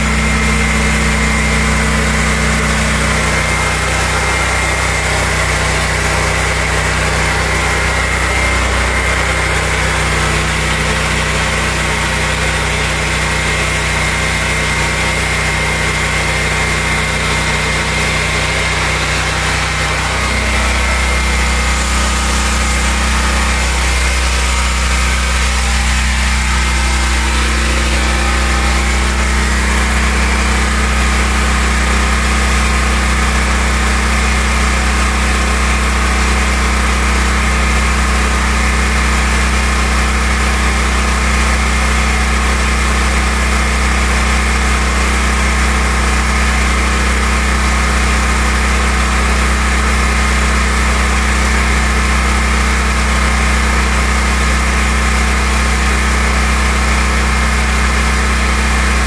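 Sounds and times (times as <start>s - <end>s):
generator engine humming: 0.0s - 59.0s.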